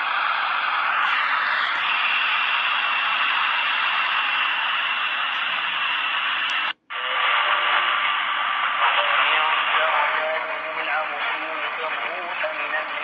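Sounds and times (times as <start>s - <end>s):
faint radio station: 0.0s - 13.0s
radio static and hiss: 0.0s - 13.0s.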